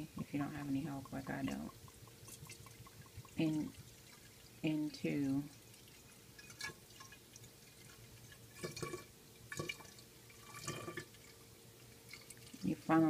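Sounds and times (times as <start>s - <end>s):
gurgles and drips: 0.0s - 13.0s
liquor pouring through funnel: 0.2s - 12.8s.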